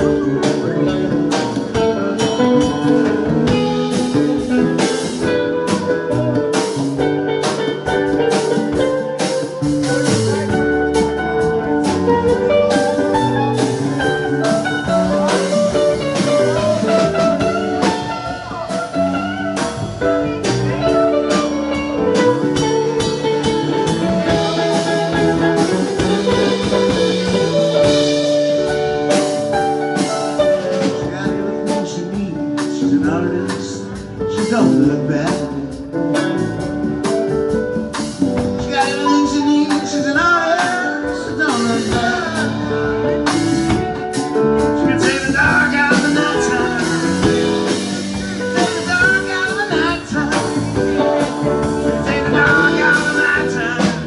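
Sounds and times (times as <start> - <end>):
live band playing instrumental: 0.0 - 54.0.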